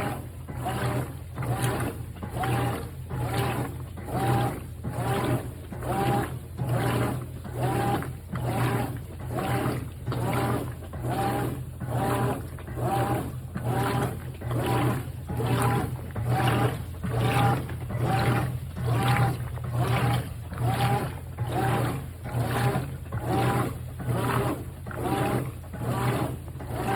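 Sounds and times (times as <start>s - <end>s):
low motor hum: 0.0s - 26.9s
washing machine water sloshing: 0.0s - 26.9s.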